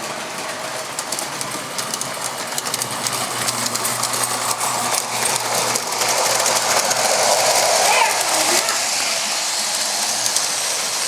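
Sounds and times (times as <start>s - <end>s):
model train motor hum: 0.0s - 11.0s
small wheels clattering on rails: 0.0s - 11.0s.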